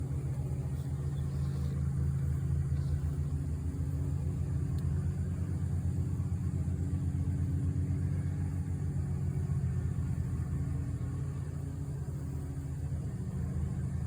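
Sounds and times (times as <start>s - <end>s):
bee swarm humming: 0.0s - 12.6s.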